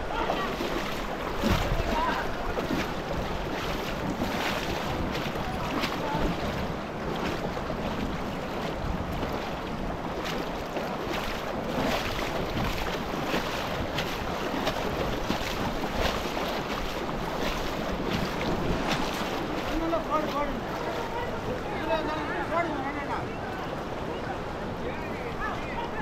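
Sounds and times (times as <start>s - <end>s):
wind buffeting microphone: 0.0s - 21.6s
water rushing: 0.0s - 26.0s
water splashes: 0.0s - 26.0s.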